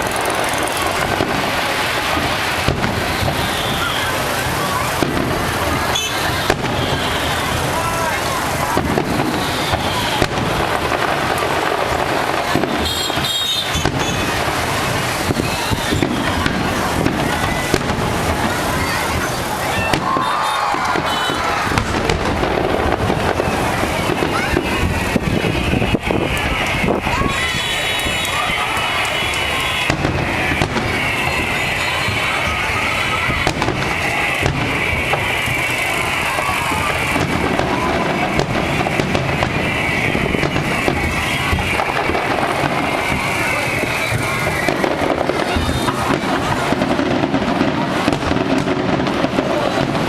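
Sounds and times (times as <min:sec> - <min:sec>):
firework whistling: 0:00.0 - 0:50.0
fireworks crackling: 0:00.0 - 0:50.0.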